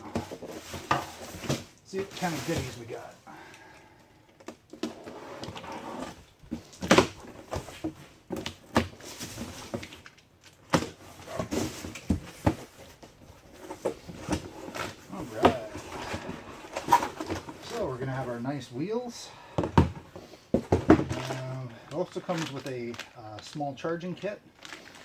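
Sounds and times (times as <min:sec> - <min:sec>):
rustling cardboard and plastic packaging: 0:00.0 - 0:03.5, 0:04.3 - 0:25.0.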